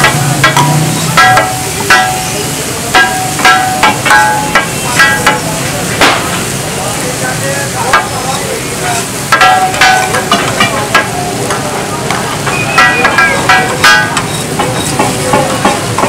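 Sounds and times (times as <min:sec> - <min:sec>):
metal spatula clanging on griddle: 0:00.0 - 0:06.6, 0:07.8 - 0:16.0
chicken sizzling in oil: 0:00.0 - 0:16.0.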